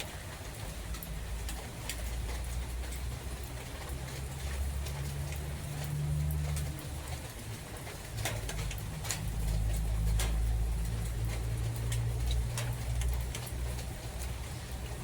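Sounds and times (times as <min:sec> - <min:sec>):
low rumble of wind: 0:00.0 - 0:15.0
raindrops tapping and dripping: 0:00.0 - 0:15.0.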